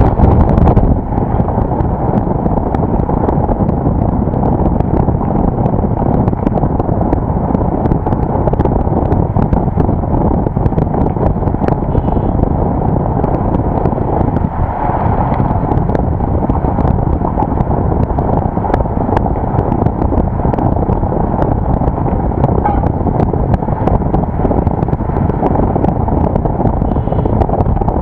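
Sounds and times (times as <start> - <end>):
road noise: 0.0 - 28.0
wind rumble on microphone: 0.0 - 28.0.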